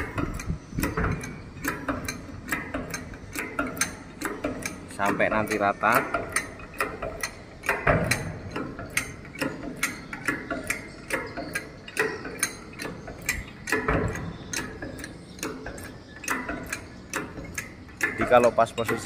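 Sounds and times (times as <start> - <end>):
hydraulic jack pump clicking: 0.0 - 19.0.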